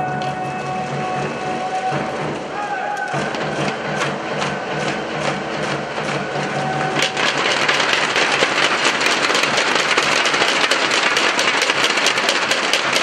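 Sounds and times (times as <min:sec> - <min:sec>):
crowd beating cheer sticks: 0:00.0 - 0:13.0.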